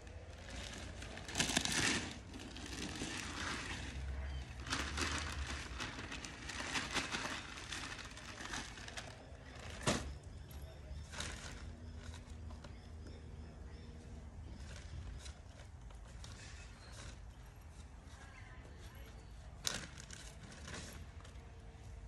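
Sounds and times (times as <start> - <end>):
rustling and crinkling: 0.0 - 13.1, 14.0 - 22.0.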